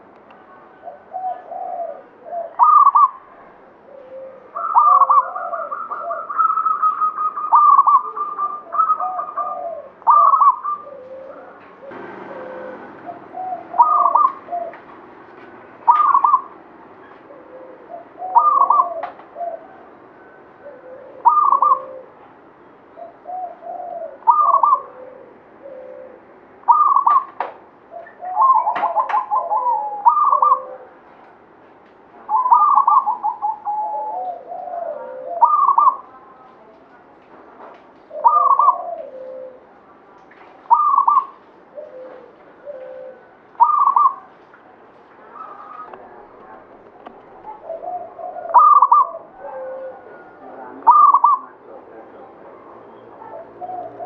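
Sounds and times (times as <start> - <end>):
dove cooing: 0.0 - 31.3, 32.2 - 36.8, 38.0 - 44.4, 45.2 - 54.0.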